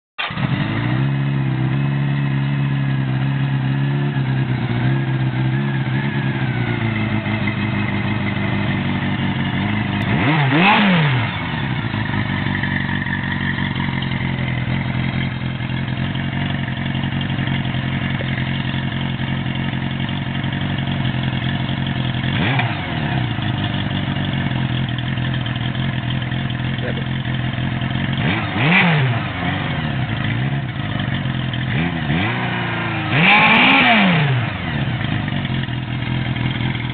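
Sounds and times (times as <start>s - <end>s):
motorcycle engine idling and revving: 0.2s - 36.9s.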